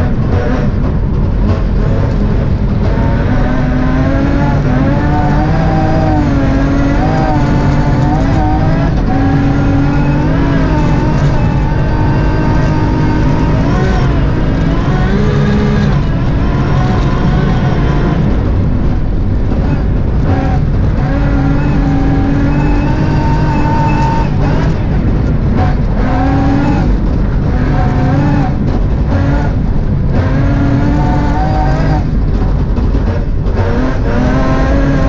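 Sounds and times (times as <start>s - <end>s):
car engine revving hard: 0.0s - 35.0s
gear upshift: 0.0s - 35.0s
tyre and road noise: 0.0s - 35.0s.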